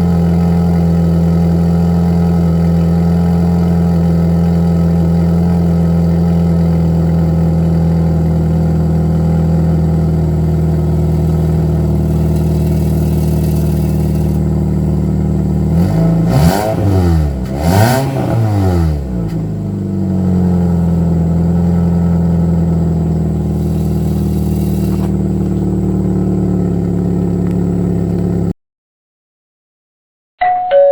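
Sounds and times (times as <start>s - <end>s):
car engine idling and revving: 0.0s - 28.6s.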